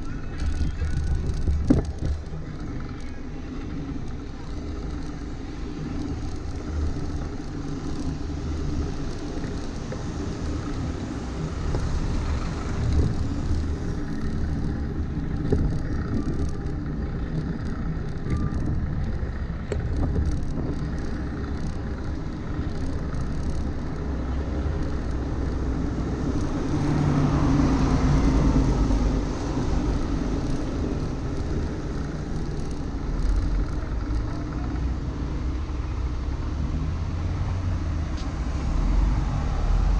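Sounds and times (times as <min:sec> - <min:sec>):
traffic rumble: 0:00.0 - 0:39.9
wind buffeting microphone: 0:00.0 - 0:39.9.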